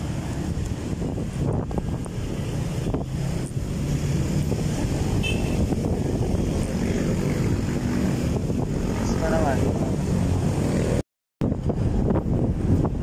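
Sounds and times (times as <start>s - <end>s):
low drone of moving ride: 0.0s - 13.0s
wind rumble on microphone: 0.0s - 13.0s.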